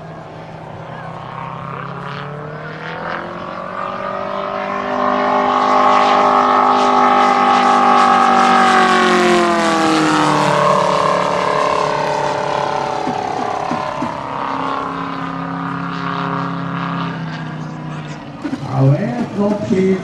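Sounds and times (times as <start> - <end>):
model airplane engine fly-by: 0.0 - 20.0.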